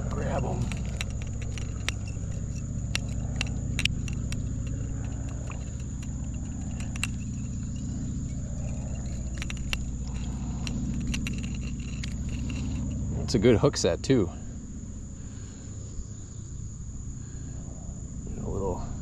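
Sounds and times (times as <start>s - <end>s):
low rumble: 0.0s - 16.0s
insects droning: 0.0s - 19.0s.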